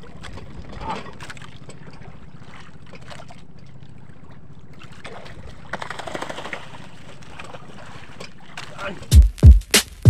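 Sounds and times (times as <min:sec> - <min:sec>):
water splashing against boat: 0:00.0 - 0:09.2.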